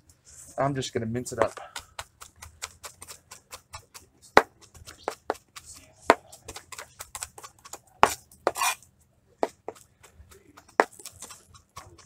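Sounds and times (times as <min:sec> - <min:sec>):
knife chopping on plastic board: 0:01.4 - 0:08.8, 0:09.4 - 0:12.0.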